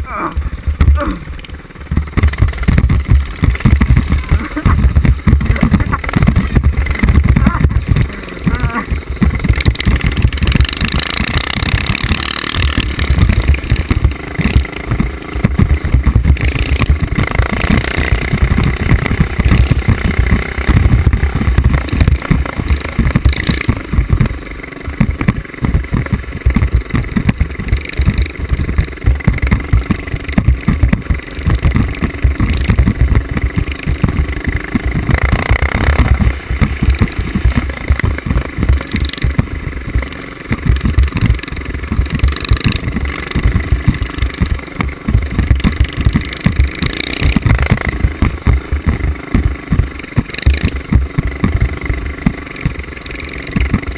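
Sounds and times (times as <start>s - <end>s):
mini bike engine revving: 0.0s - 53.9s.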